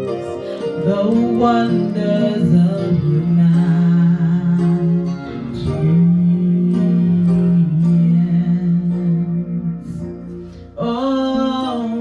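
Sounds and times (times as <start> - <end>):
guitar accompaniment: 0.0 - 12.0
worship song singing: 0.0 - 12.0.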